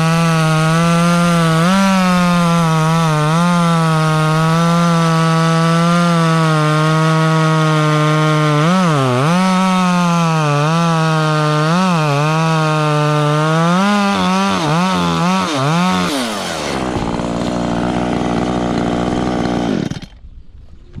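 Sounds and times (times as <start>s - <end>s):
chainsaw cutting branches: 0.0s - 20.2s.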